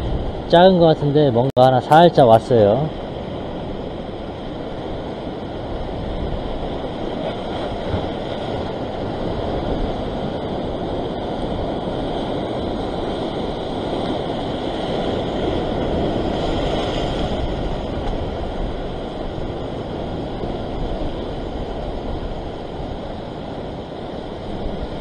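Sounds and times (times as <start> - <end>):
surf washing over rocks: 0.0 - 25.0
wind rumble on microphone: 0.0 - 25.0.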